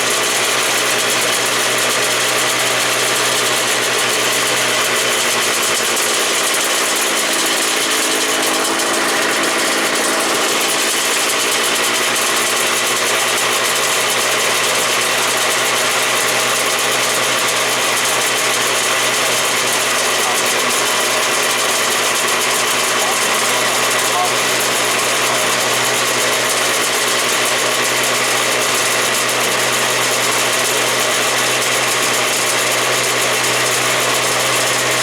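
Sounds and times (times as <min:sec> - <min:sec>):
race engine idling: 0:00.0 - 0:35.0.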